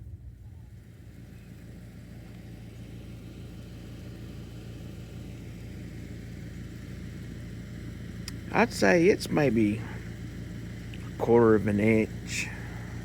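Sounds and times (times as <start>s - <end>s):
air-conditioning unit humming: 0.0s - 13.0s.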